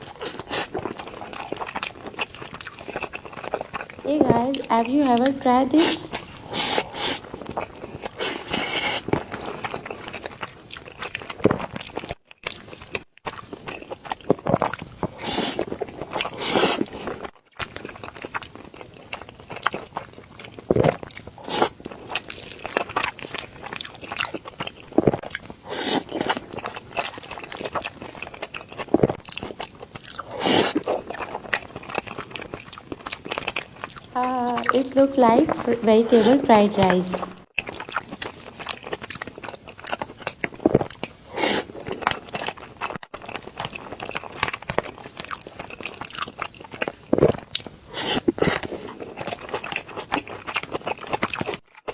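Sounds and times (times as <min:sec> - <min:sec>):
person chewing and crunching food: 0:00.0 - 0:04.0, 0:06.1 - 0:34.7, 0:37.6 - 0:51.9.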